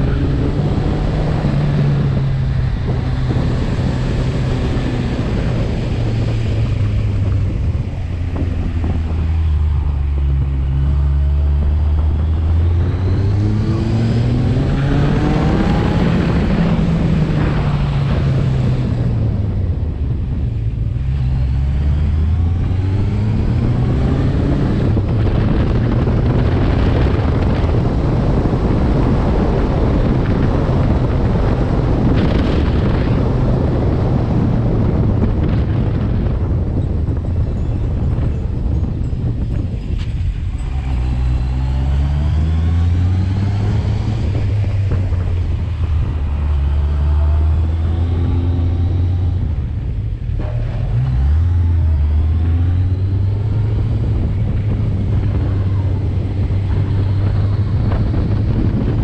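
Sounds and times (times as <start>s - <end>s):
vehicle engine running: 0.0s - 59.0s
wind and road noise: 0.0s - 59.0s.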